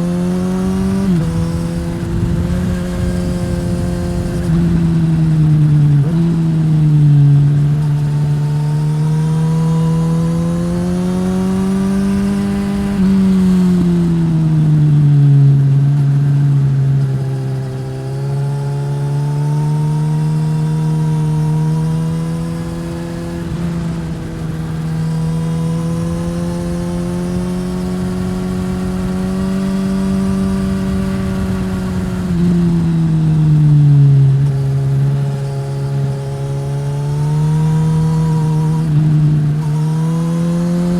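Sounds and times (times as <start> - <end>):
motorcycle engine revving under load: 0.0 - 40.9.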